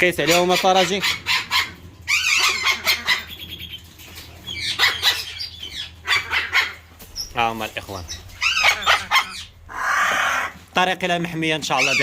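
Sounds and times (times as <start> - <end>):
parrots squawking: 0.0 - 10.8, 11.6 - 12.0.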